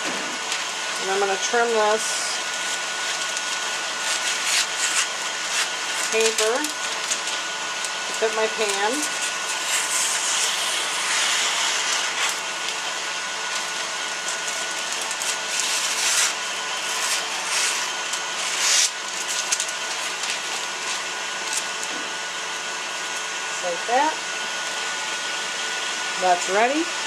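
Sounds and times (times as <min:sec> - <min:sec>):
stand mixer running: 0:00.0 - 0:27.0
parchment paper rustling: 0:00.4 - 0:22.2.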